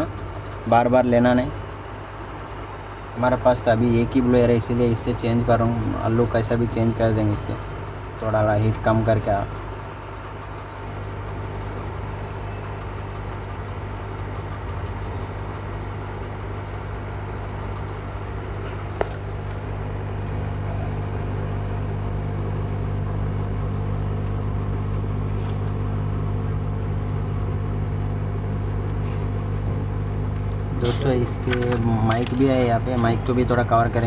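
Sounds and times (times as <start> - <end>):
hot-air blower fan hum: 0.0 - 34.0.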